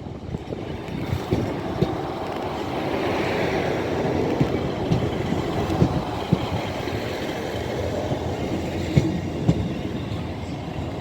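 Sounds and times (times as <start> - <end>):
train rumbling: 0.0 - 11.0
wheels clunking over rail joints: 0.4 - 10.7.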